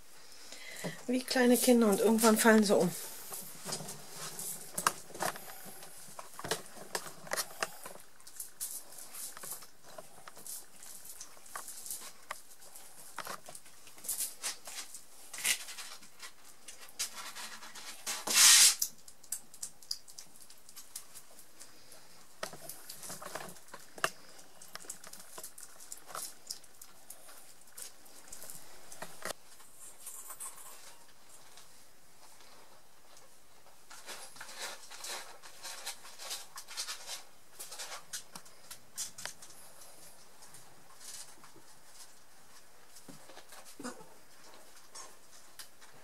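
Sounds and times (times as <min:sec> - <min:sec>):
kittens' claws scratching and tapping: 0:01.4 - 0:31.8, 0:32.4 - 0:46.0.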